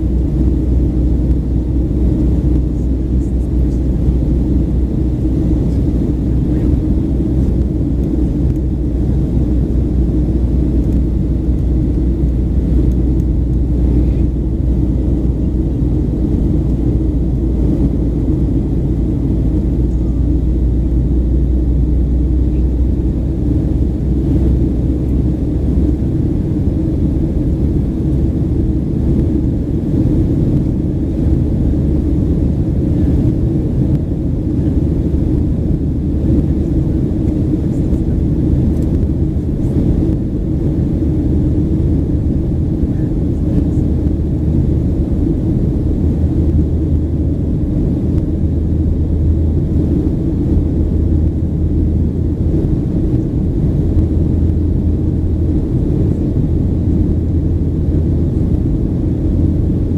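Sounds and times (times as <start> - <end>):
jet engine cabin rumble: 0.0 - 59.9.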